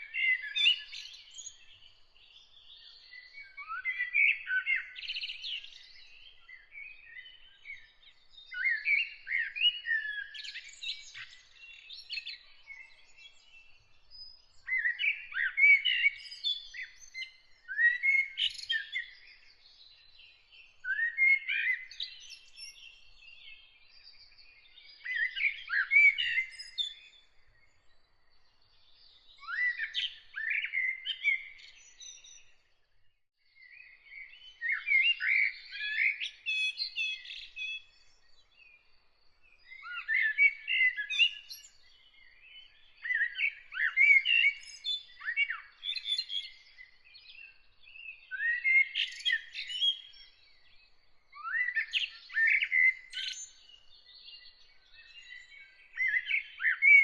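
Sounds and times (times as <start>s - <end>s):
faint bird chirps: 0.0s - 57.0s
songbird singing phrases: 0.0s - 57.0s.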